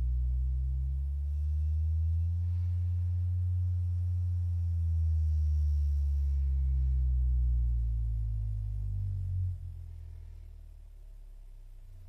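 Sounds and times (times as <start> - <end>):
woofer playing low bass tone: 0.0 - 12.0.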